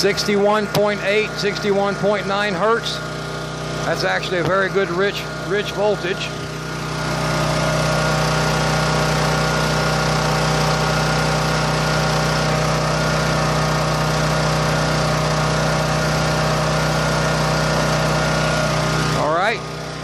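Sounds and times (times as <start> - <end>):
portable generator running: 0.0 - 20.0.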